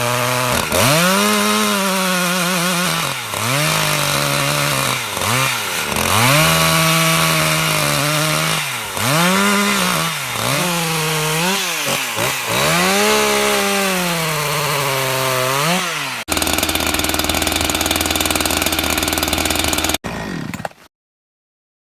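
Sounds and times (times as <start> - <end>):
chainsaw engine revving: 0.0 - 20.9
rapidly pulsing rasp: 0.4 - 20.0.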